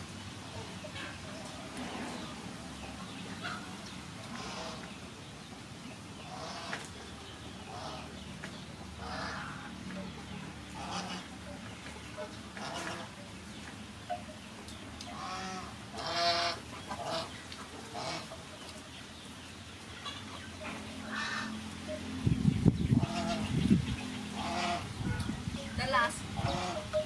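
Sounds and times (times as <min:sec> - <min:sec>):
farm animals calling: 0:00.0 - 0:27.0.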